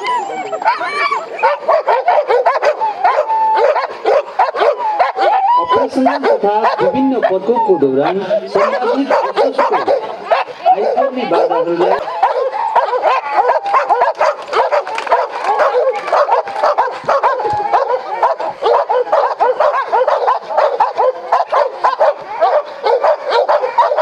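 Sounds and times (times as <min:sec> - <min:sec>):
many dogs barking: 0:00.0 - 0:24.0.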